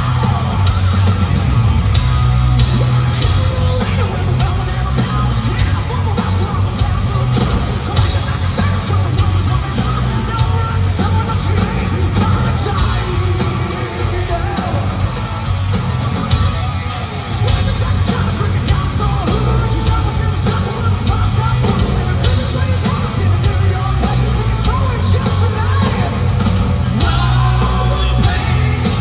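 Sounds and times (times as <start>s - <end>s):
singer yelling: 0.0s - 1.0s, 2.7s - 29.0s
distorted electric guitars: 0.0s - 29.0s
drums: 0.0s - 29.0s
heavy bass: 0.0s - 29.0s.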